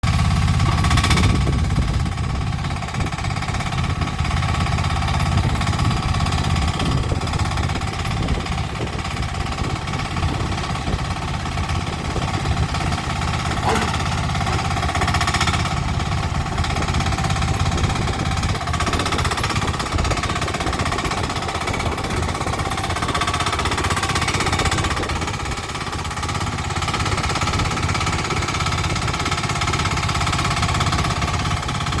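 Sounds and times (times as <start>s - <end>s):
small engine chugging: 0.0s - 32.0s.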